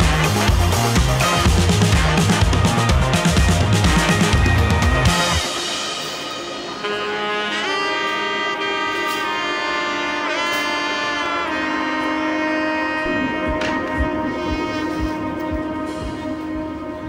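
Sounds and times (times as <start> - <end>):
background music with sliding notes: 0.0 - 17.0.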